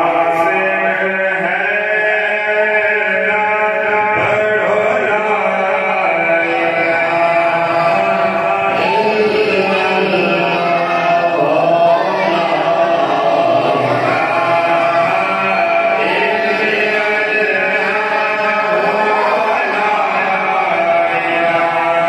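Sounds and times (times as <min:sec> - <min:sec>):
man singing a hymn: 0:00.0 - 0:22.0.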